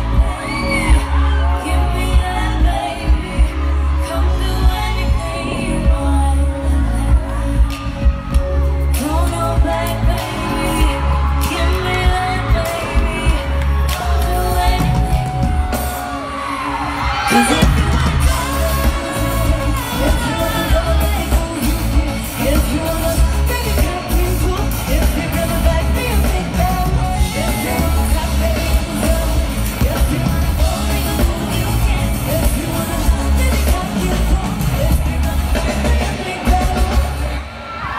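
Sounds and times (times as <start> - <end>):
pop backing track with bass beat: 0.0 - 16.3, 16.9 - 37.4
female vocal group singing: 0.0 - 37.9.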